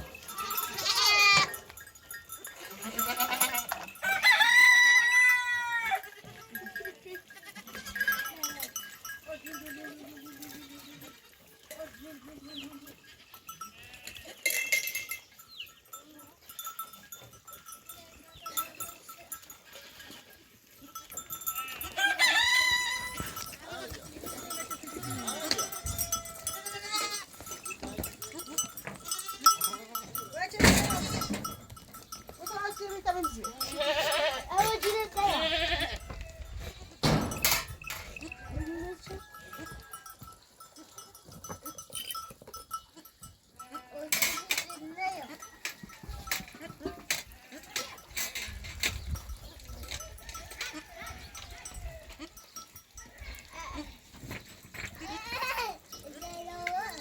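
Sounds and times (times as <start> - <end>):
goats or sheep bleating: 0.0 - 1.8, 2.5 - 14.8, 19.6 - 31.6, 32.4 - 41.9, 42.9 - 45.5, 46.2 - 48.0, 50.2 - 57.0
livestock bells clinking: 0.0 - 57.0.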